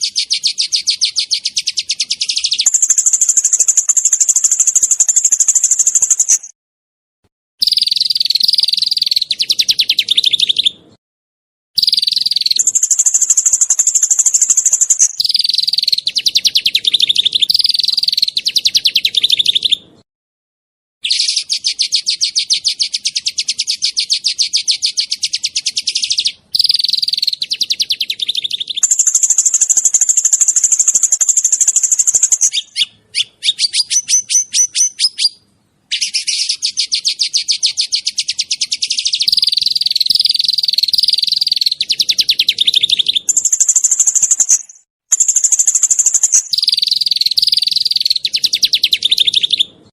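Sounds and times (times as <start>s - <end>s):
songbirds trilling: 0.0s - 6.5s, 7.6s - 10.9s, 11.8s - 20.0s, 21.0s - 49.9s.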